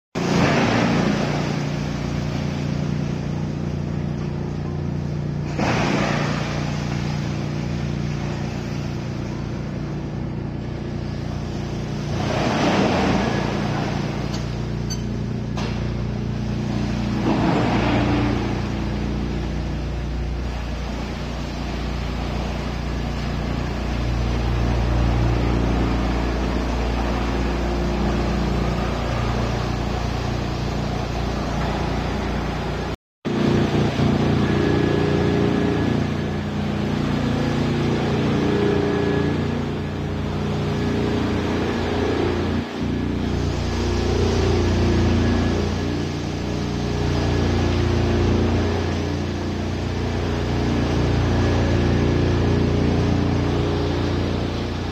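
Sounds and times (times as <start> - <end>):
wood chipper running: 0.2 - 54.9.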